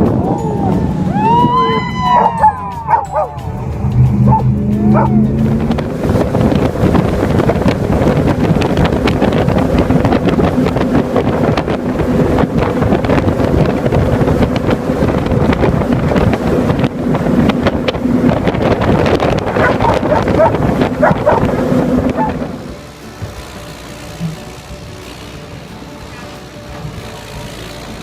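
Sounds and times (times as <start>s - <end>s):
boat engine drone: 0.0s - 28.0s
wind buffeting microphone: 0.0s - 28.0s.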